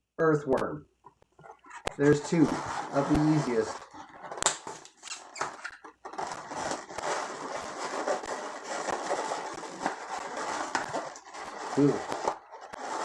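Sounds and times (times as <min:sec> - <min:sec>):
balloons rubbing and squeaking: 0:01.1 - 0:13.0.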